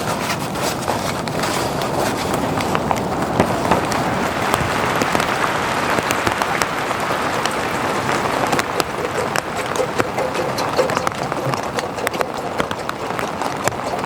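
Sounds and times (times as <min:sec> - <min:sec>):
rain drops tapping: 0:00.0 - 0:14.0.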